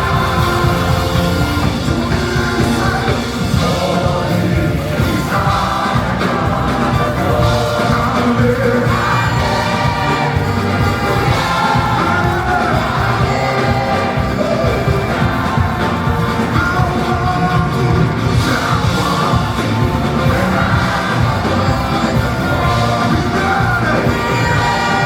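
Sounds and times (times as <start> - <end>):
bass guitar: 0.0 - 25.0
drums: 0.0 - 25.0
people singing: 0.0 - 25.0.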